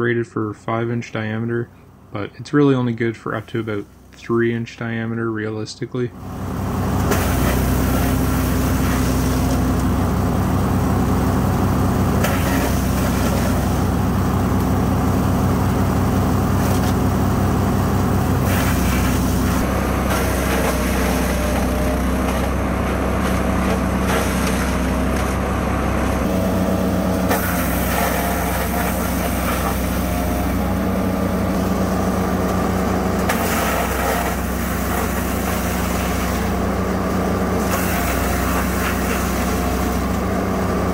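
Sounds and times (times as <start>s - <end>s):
wood chipper engine running: 0.0s - 5.0s, 6.0s - 40.9s.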